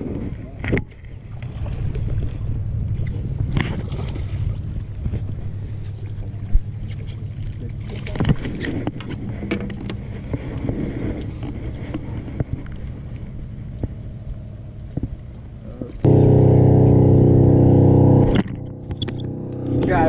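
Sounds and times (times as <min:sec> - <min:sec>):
low boat rumble: 0:00.0 - 0:20.0.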